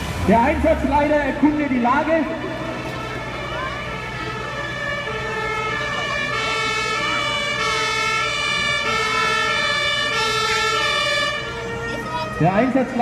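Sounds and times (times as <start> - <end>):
low engine hum: 0.0 - 13.0
two-tone siren: 1.6 - 13.0.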